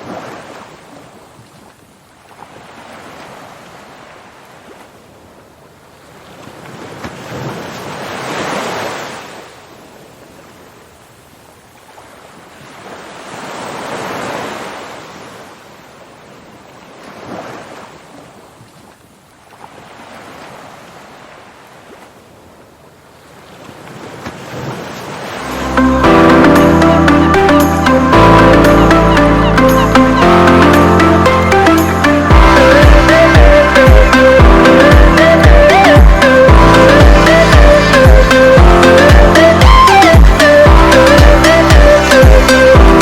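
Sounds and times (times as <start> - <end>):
ocean waves washing in: 0.0 - 1.4, 2.2 - 11.2, 12.0 - 18.5, 19.5 - 43.0.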